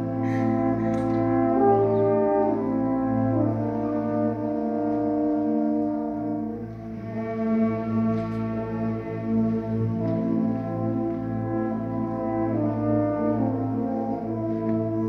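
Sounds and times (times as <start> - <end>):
concert band playing slow chords: 0.0 - 15.0.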